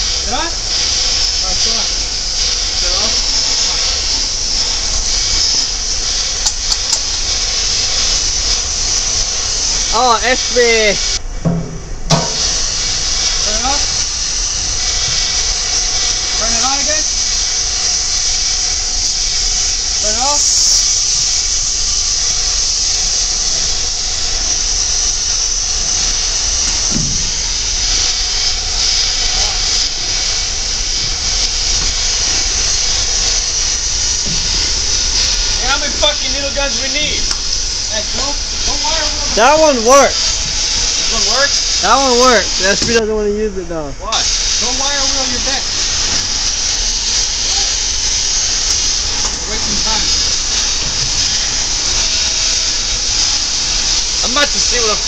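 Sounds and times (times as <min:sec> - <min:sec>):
steady air hiss: 0:00.0 - 0:55.0.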